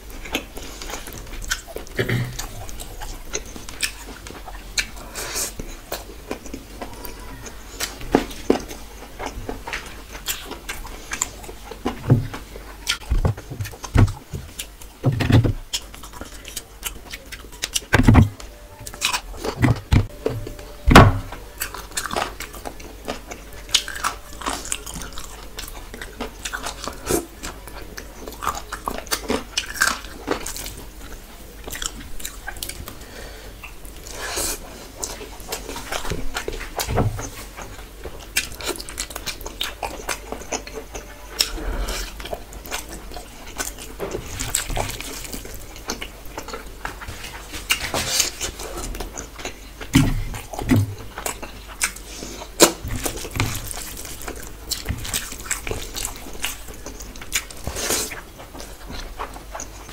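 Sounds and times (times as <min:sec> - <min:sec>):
wet chewing: 0:00.1 - 0:59.9.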